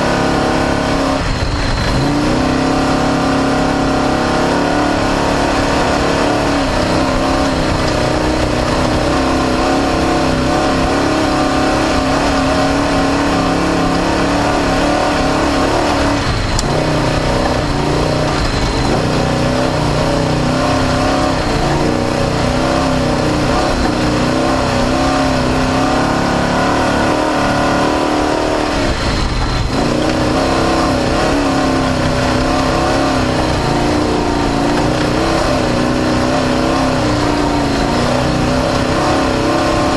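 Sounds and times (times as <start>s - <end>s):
constant noisy rush: 0.0s - 39.9s
race car engine revving high: 0.0s - 39.9s.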